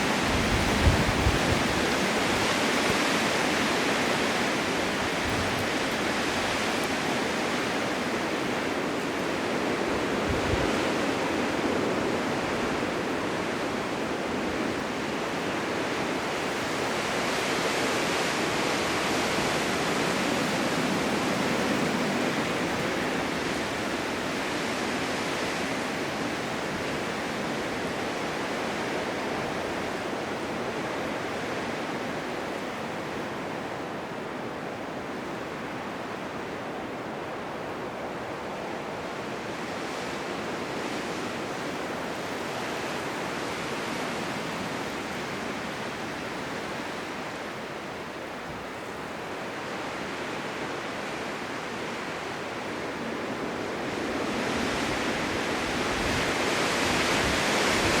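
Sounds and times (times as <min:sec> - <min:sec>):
blizzard wind blowing: 0:00.0 - 0:58.0.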